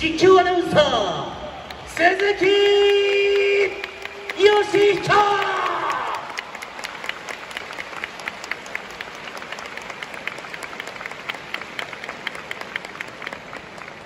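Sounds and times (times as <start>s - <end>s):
crowd applauding: 1.6s - 14.0s.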